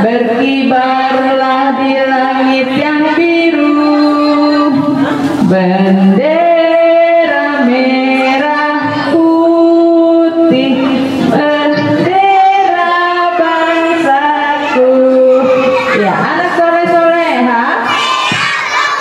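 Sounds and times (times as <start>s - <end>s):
woman singing into a microphone: 0.0s - 17.8s
children singing along: 0.0s - 19.0s.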